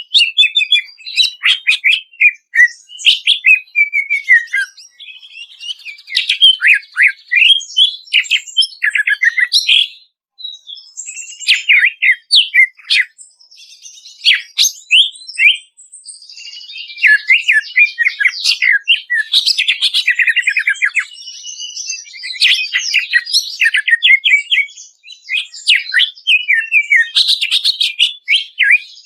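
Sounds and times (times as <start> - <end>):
bird song chatter and trill: 0.0 - 29.0.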